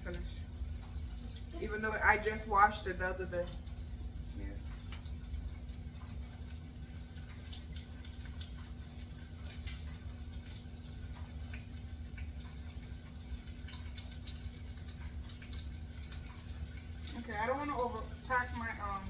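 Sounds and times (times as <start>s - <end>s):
oil sizzling with crackles: 0.0s - 19.0s.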